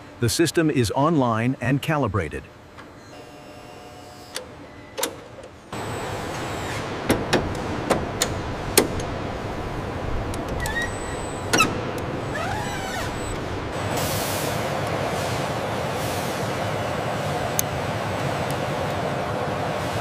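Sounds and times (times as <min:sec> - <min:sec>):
steady machinery hum: 0:00.0 - 0:20.0.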